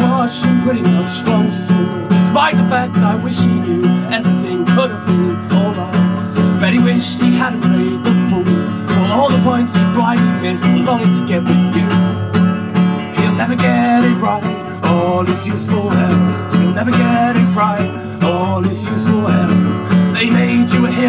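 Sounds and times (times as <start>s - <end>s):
man singing: 0.0s - 12.2s, 13.0s - 21.0s
acoustic guitar strumming: 0.0s - 21.0s.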